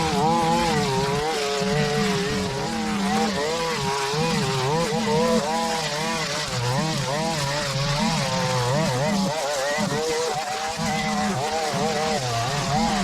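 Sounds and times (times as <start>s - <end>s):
small petrol engine running hard: 0.0s - 13.0s.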